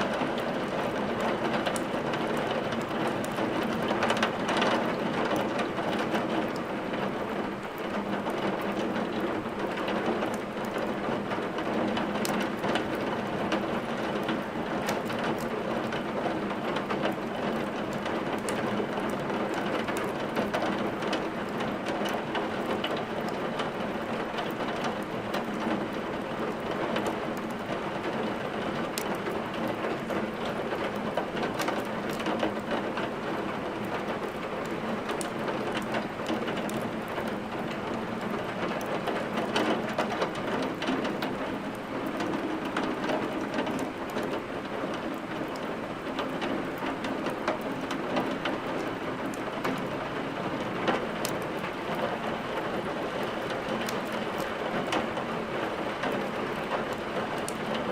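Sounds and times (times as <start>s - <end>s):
steady rain: 0.0s - 57.9s
wood fire crackling: 0.1s - 49.7s, 50.6s - 57.9s.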